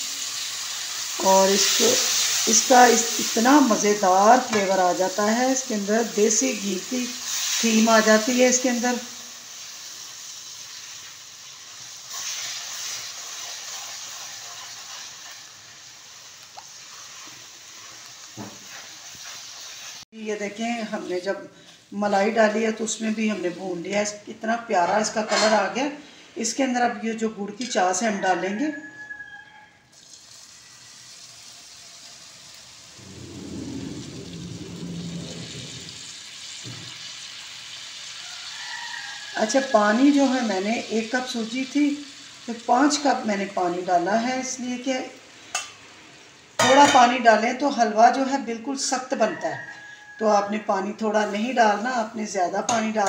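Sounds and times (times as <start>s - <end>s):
food sizzling in a pan: 0.0s - 26.8s, 29.9s - 53.0s.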